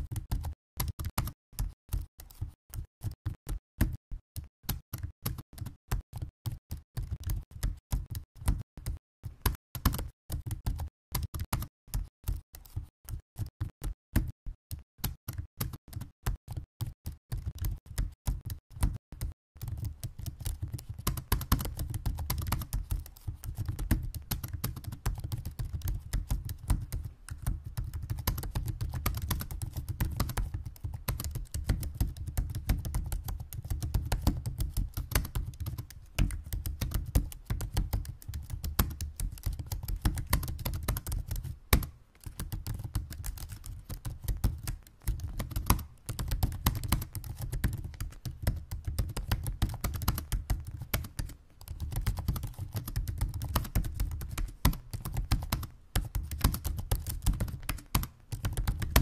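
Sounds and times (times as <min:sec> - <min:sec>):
typing on laptop keyboard: 0:00.0 - 0:59.0.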